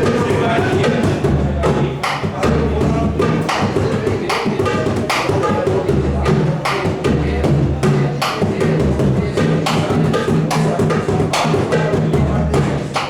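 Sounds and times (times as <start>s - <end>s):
surdo drum: 0.0s - 13.0s.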